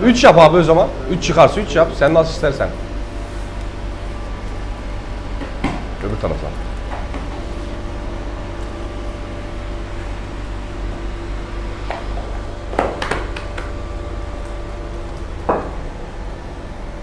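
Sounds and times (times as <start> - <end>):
fan-like mechanical hum: 0.0 - 17.0.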